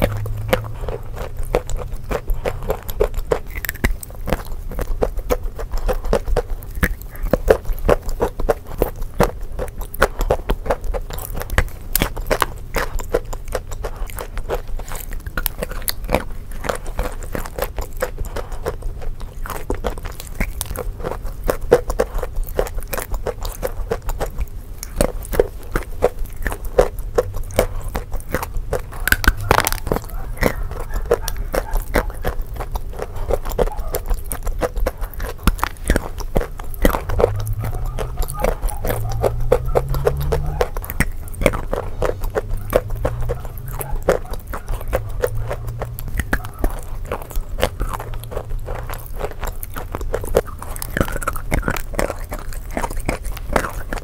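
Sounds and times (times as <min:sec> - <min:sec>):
chewing chalk with crunches: 0:00.0 - 0:54.0.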